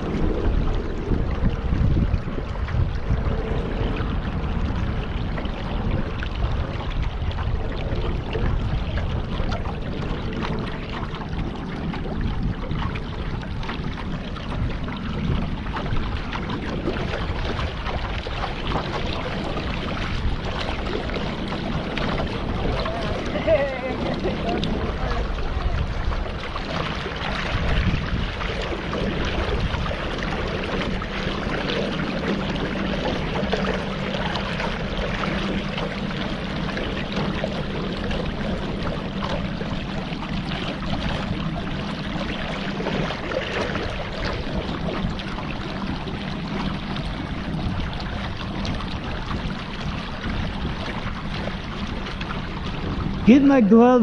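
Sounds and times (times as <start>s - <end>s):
boat engine hum: 0.0s - 54.0s
water rushing: 0.0s - 54.0s
wind noise: 0.0s - 54.0s.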